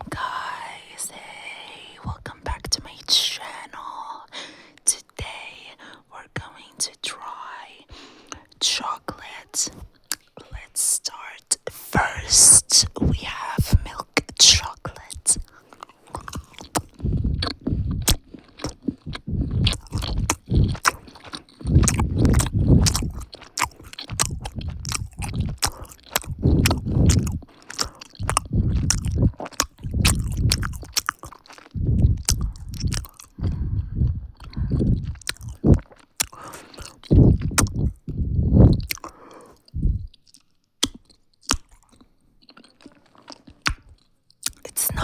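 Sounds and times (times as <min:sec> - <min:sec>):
sharp mouth clicks: 0:00.0 - 0:42.1, 0:43.3 - 0:45.0
chewing chocolate: 0:00.0 - 0:45.0.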